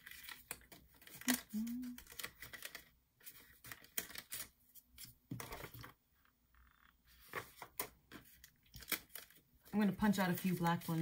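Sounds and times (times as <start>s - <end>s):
paper snaps and rustles: 0.0s - 6.0s, 7.2s - 11.0s.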